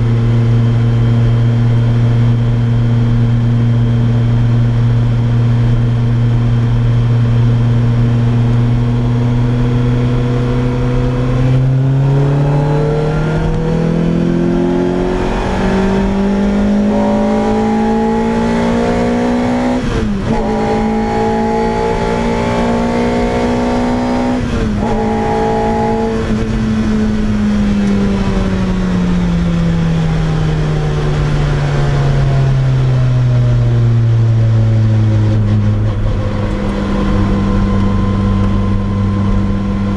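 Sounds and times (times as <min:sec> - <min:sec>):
car engine revving through exhaust: 0:00.0 - 0:39.9.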